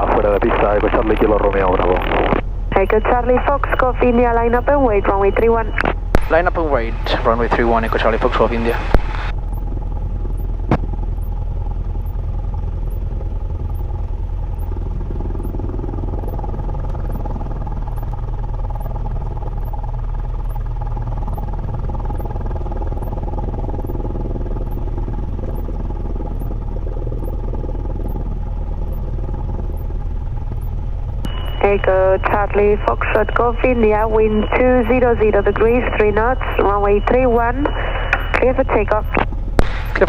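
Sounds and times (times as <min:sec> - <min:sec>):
propeller plane engine running: 0:00.0 - 0:40.0.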